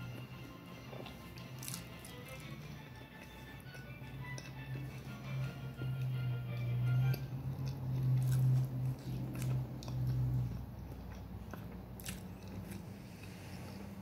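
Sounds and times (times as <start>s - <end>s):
chewing and mouth smacking: 0.8s - 13.5s.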